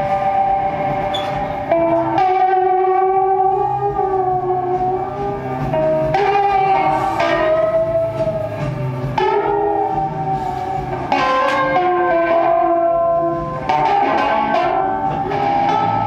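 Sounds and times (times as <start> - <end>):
electric guitar slow chords: 0.0 - 16.0.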